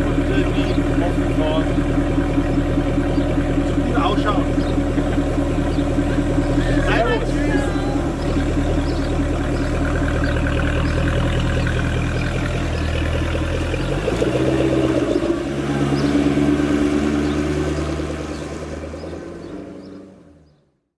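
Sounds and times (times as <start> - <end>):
car engine running: 0.0 - 20.6.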